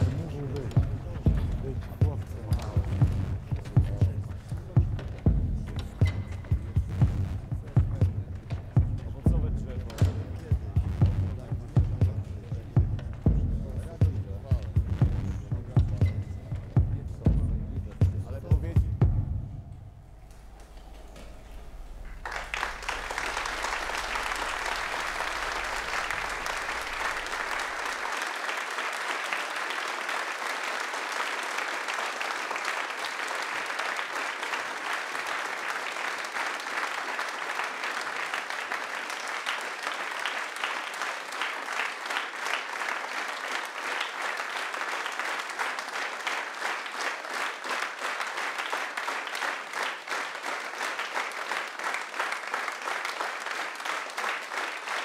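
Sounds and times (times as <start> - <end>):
audience applauding: 0.0 - 18.6, 20.3 - 55.0.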